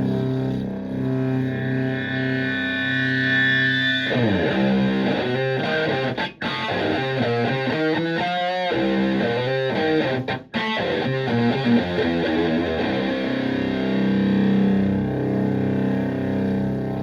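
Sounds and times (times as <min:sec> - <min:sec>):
distorted electric guitar lead: 0:00.0 - 0:17.0.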